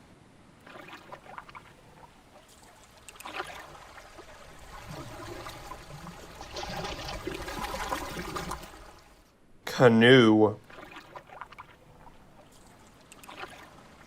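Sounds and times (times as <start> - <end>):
water splashing and trickling: 0.4 - 14.0.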